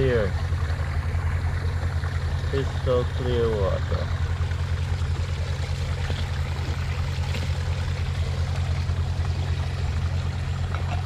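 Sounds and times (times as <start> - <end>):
low throbbing drone: 0.0 - 11.0
stream running: 0.0 - 11.0.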